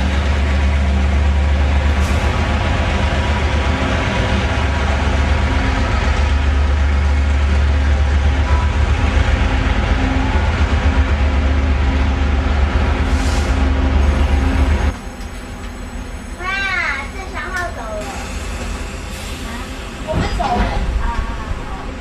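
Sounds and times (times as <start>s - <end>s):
diesel locomotive rumbling: 0.0s - 22.0s.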